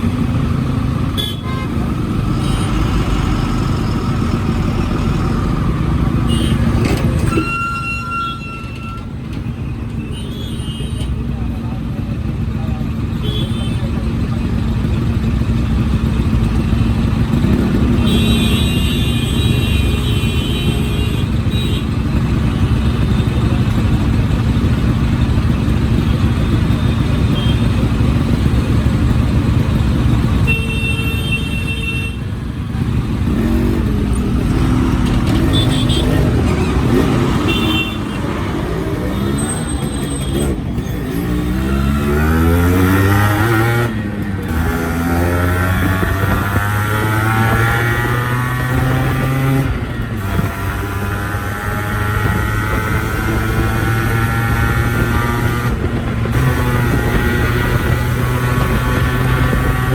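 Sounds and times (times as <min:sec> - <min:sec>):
motorcycle engine revving: 0:00.0 - 0:07.4, 0:10.4 - 0:59.9.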